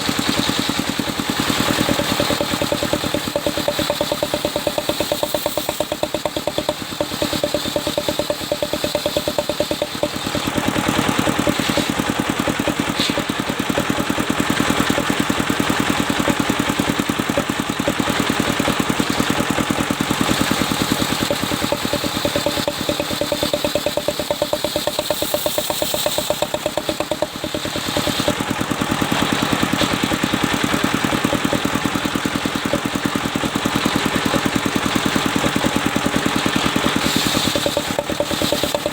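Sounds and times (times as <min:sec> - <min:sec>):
engine throbbing: 0:00.0 - 0:38.9
sawmill saw cutting log: 0:00.0 - 0:38.9.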